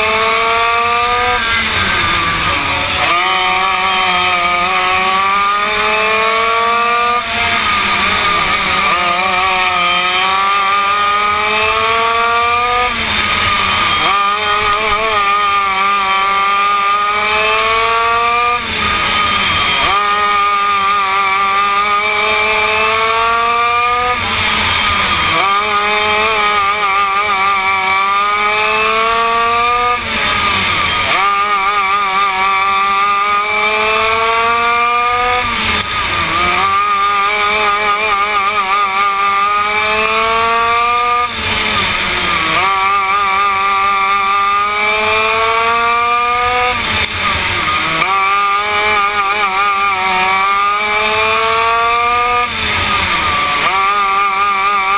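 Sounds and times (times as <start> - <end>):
kart engine racing: 0.0 - 54.9.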